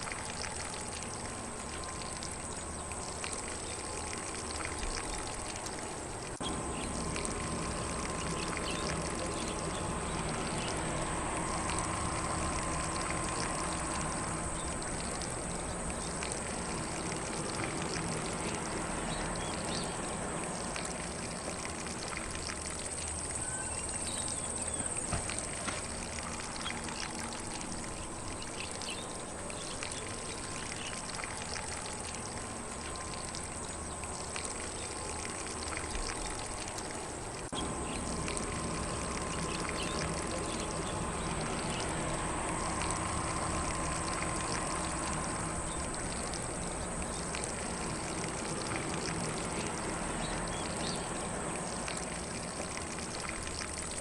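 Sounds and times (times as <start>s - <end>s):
sprinkler spraying water: 0.0s - 54.0s.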